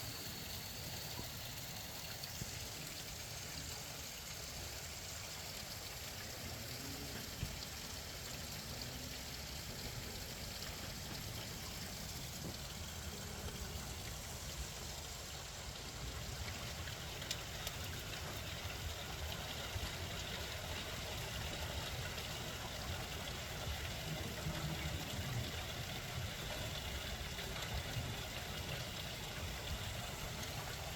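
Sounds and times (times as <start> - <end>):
rainwater trickling: 0.0 - 30.9
steady rain falling: 0.0 - 30.9.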